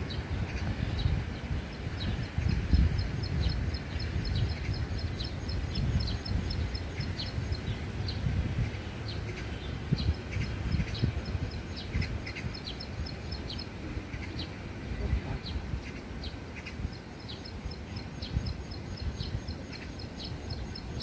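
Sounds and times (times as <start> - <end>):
songbird chipping calls: 0.0 - 14.8, 15.4 - 21.0
wind rumble on microphone: 0.0 - 21.0.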